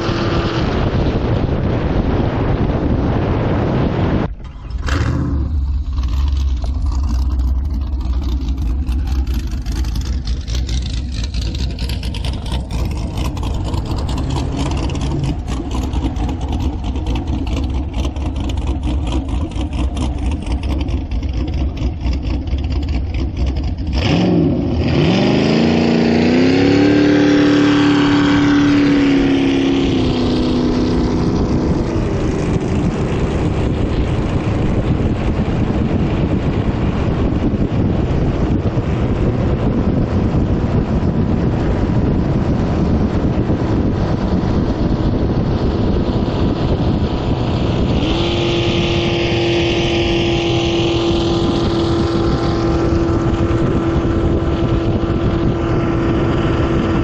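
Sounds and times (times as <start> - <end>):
boat engine rumbling and revving: 0.0 - 57.0
wind noise on microphone: 0.0 - 57.0.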